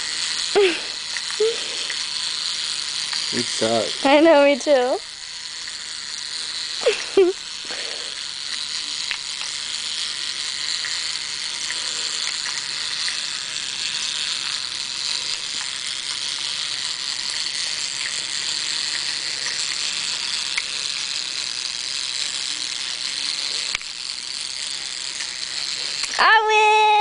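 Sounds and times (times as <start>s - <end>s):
clockwork toy motor whirring: 0.0s - 27.0s.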